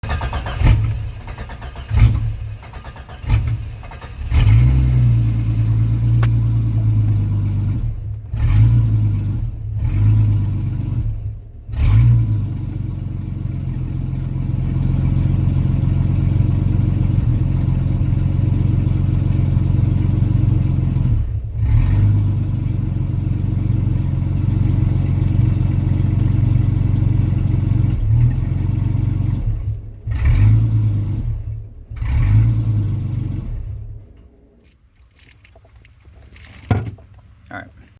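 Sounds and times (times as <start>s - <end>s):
car engine turning over and running: 0.0s - 37.9s.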